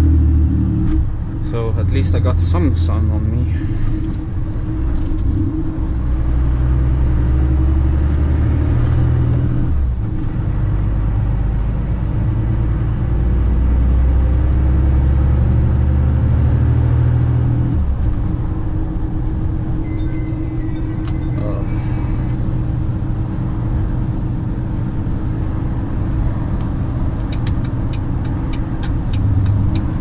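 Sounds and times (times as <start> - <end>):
truck diesel engine under load: 0.0 - 30.0.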